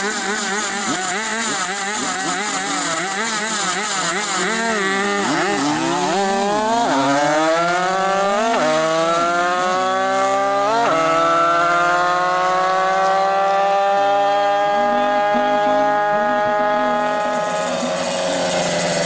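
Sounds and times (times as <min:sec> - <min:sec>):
two-stroke mopeds accelerating: 0:00.0 - 0:19.0.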